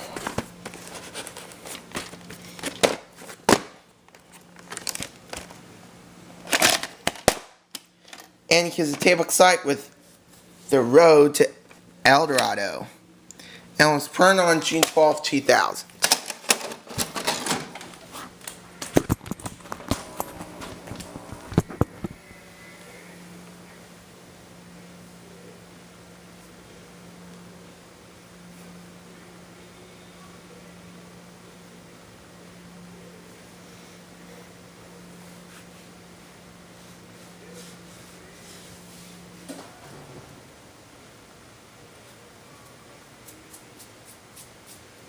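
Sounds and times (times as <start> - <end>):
faint hum with hiss: 0.0 - 45.0.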